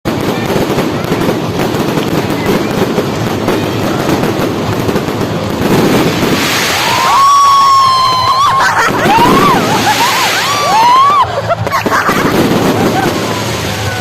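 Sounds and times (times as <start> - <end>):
fireworks crackling: 0.0 - 14.0
heavy rumble: 0.1 - 14.0.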